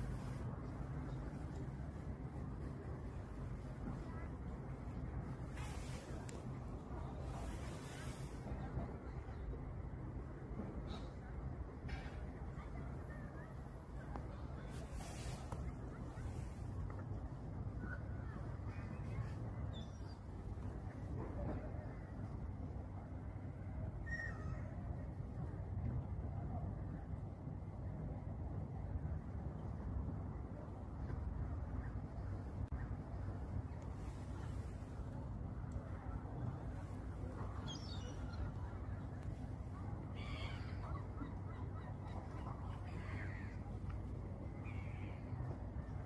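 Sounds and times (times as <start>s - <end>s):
low outdoor rumble: 0.0s - 46.0s.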